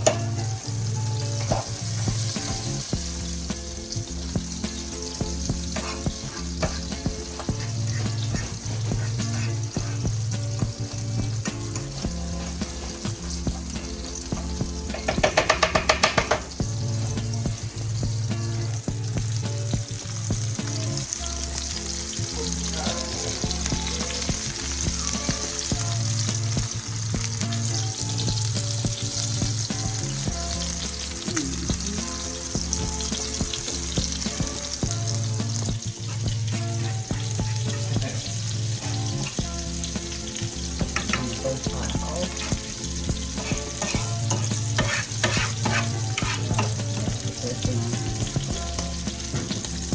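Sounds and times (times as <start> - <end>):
food sizzling in a frying pan: 0.0 - 49.9
music playing: 0.0 - 49.9.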